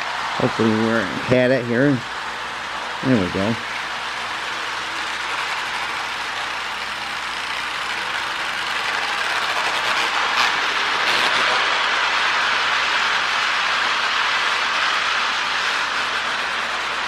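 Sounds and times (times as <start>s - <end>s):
toy train motor whirring: 2.0s - 17.0s.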